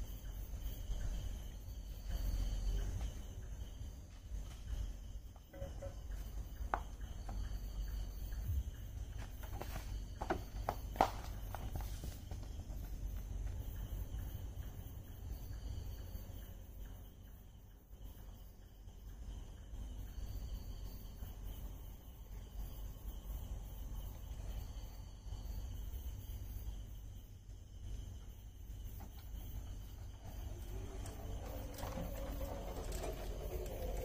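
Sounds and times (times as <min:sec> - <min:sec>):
night insects trilling: 0:00.0 - 0:34.0
soft insect chirps: 0:00.0 - 0:34.0.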